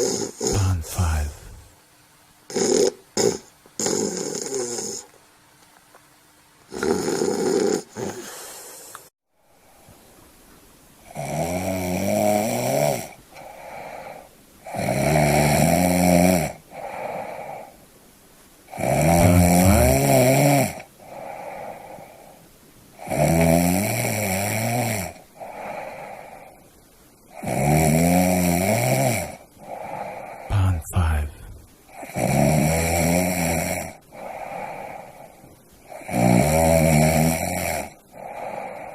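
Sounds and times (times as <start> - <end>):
person snoring: 0.0 - 1.8, 2.5 - 5.1, 6.7 - 9.0, 11.1 - 17.7, 18.7 - 22.4, 23.0 - 26.6, 27.3 - 38.9.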